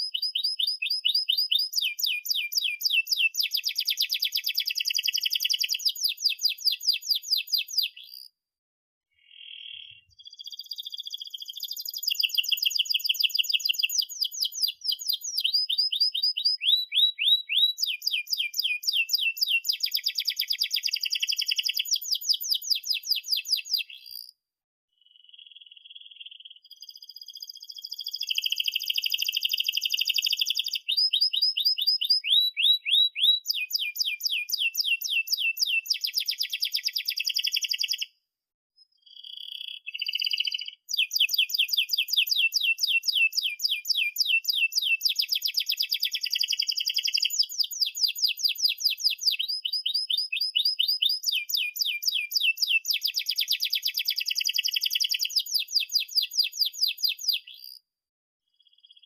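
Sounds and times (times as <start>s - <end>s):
canary singing trills: 0.0s - 8.3s, 9.2s - 24.3s, 25.1s - 38.1s, 38.8s - 57.8s.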